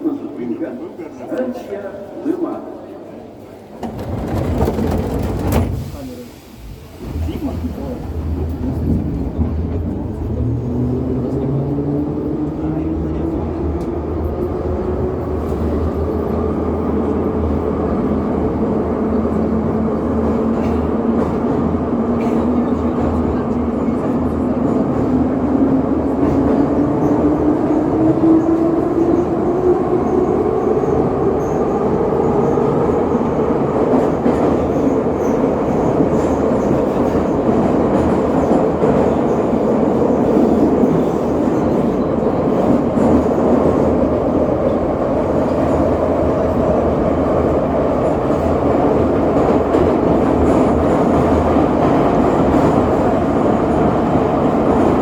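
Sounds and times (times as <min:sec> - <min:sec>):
wheels rumbling on rails: 0:03.7 - 0:55.0.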